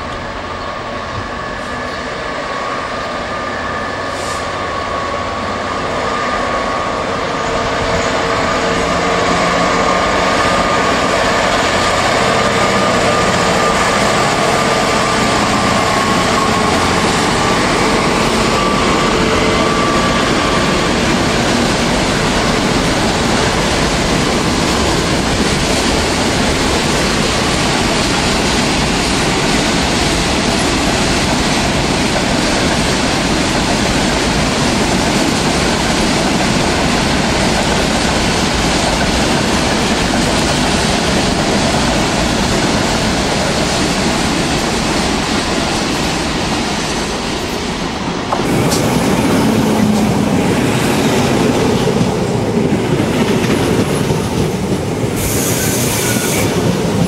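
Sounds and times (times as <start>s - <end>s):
diesel locomotive engine whine: 0.0s - 57.0s
train wheels rumbling on rails: 0.0s - 57.0s.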